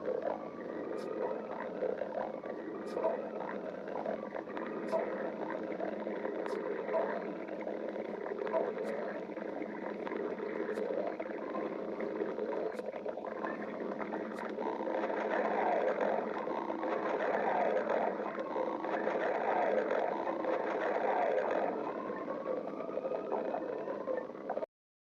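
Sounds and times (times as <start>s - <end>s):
stomach growling: 0.0s - 24.7s.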